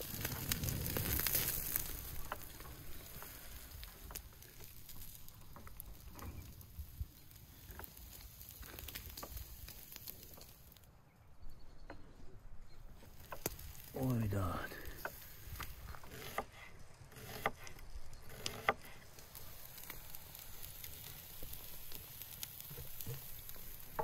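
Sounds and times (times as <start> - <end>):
meat sizzling on charcoal grill: 0.0 - 10.9, 12.9 - 24.0
fat crackling and popping: 0.0 - 11.0, 11.8 - 24.0.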